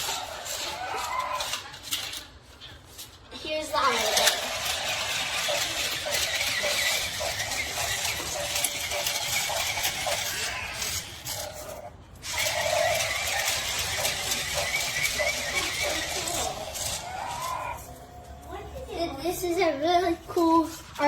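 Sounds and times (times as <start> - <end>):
toy electronic mechanical whir: 0.0 - 21.0.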